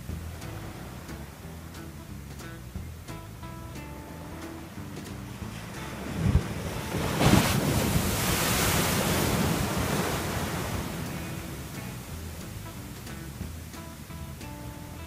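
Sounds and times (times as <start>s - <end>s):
ocean surf breaking: 0.0s - 14.5s
low thumps: 0.0s - 15.0s
wind on microphone: 0.0s - 15.0s.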